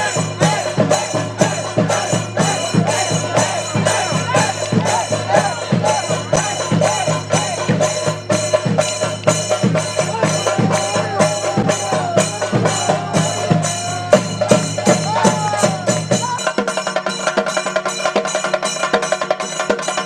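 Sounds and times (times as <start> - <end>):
wavering melody: 0.0 - 16.4
fast temple drumming: 0.0 - 20.0.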